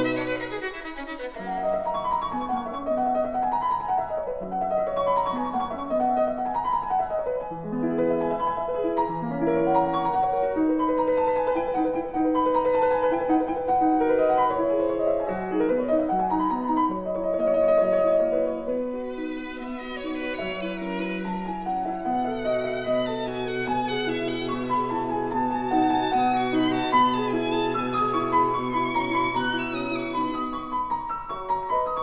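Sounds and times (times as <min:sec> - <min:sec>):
piano instrumental music: 0:00.0 - 0:32.0.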